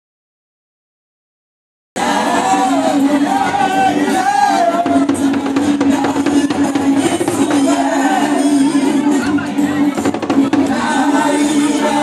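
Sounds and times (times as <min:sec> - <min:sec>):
percussion: 0:02.0 - 0:12.0
person singing: 0:02.0 - 0:12.0.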